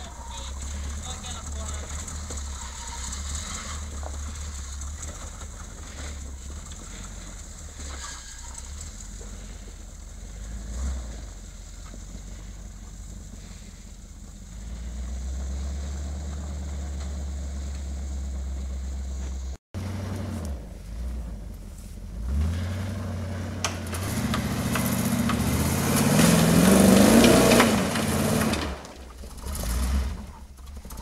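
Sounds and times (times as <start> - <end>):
truck engine rumbling at low revs: 0.0 - 31.0.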